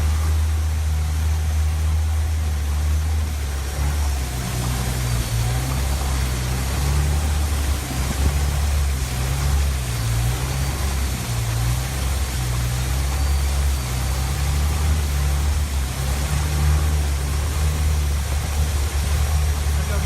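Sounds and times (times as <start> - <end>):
boat engine droning: 0.0 - 20.0
wind and water hiss: 0.0 - 20.0.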